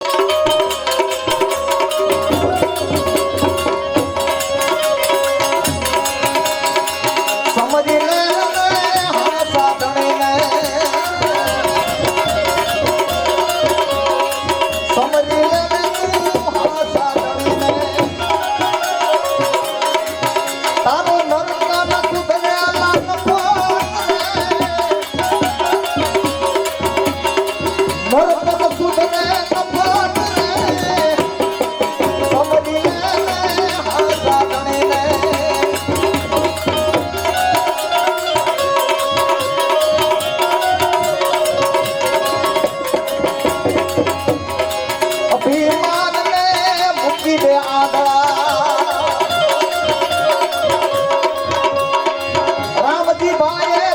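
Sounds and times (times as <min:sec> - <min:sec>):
tabla drumming: 0:00.0 - 0:53.9.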